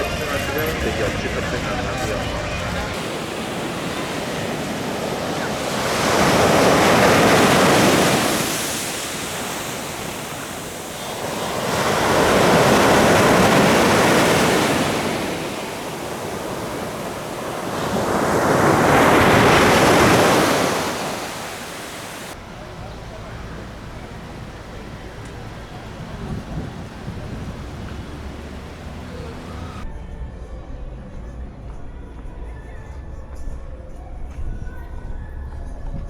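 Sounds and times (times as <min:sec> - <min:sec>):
ocean waves breaking on beach: 0:00.0 - 0:29.8.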